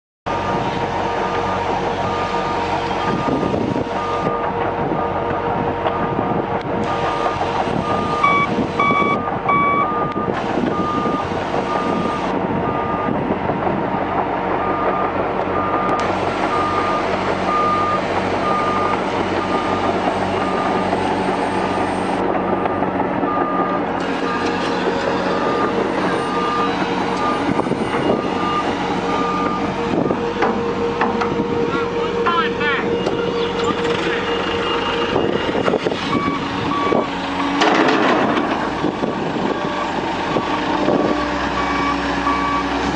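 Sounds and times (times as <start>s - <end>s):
heavy machine engine running: 0.3s - 42.9s
reversing alarm beeping: 1.2s - 6.2s, 6.8s - 13.2s, 14.6s - 38.2s, 38.9s - 42.8s.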